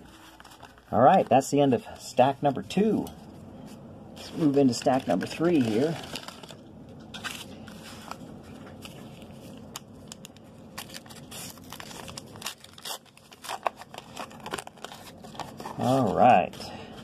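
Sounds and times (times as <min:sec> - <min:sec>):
foil wrappers crinkling and tearing: 0:00.0 - 0:02.0, 0:04.2 - 0:17.0.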